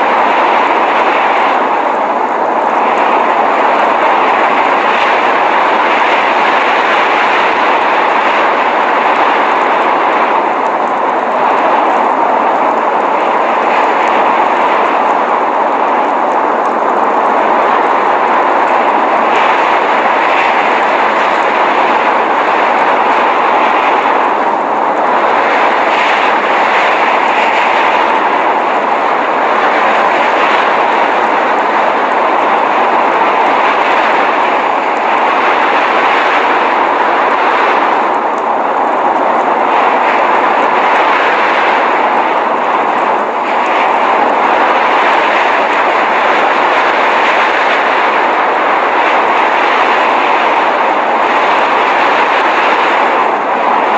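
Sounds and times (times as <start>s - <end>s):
blizzard wind rushing: 0.0s - 53.9s.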